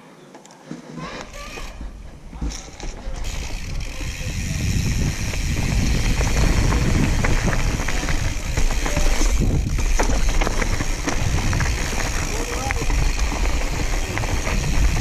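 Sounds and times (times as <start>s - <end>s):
bike tyres rolling over ground: 0.7s - 15.0s
bike rattling clicks: 1.2s - 15.0s
wind on microphone: 1.8s - 15.0s.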